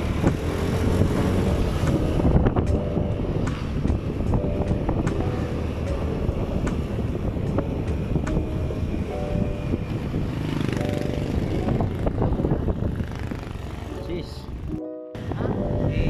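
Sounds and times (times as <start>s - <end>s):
motorcycle engine running: 0.0s - 14.2s
road noise: 0.0s - 16.0s
wind buffeting microphone: 0.0s - 16.0s.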